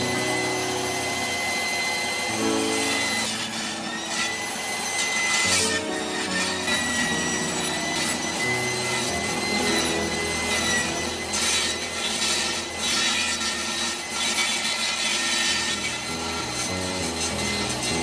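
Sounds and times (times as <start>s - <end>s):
saw cutting wood: 0.0s - 18.0s
table saw whining: 0.0s - 18.0s.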